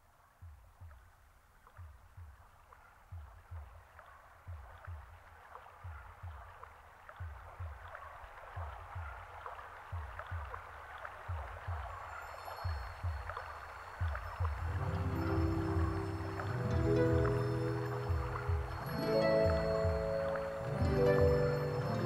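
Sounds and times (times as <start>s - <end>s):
soft low lapping thumps: 0.4s - 22.0s
water trickling and bubbling: 1.6s - 22.0s.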